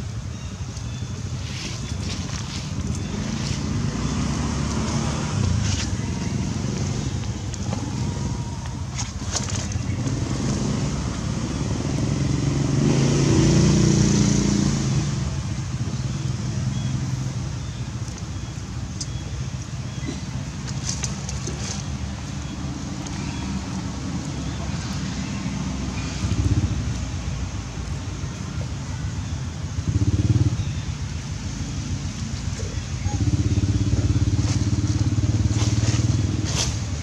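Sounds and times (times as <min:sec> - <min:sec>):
low engine-like rumble: 0:00.0 - 0:37.0.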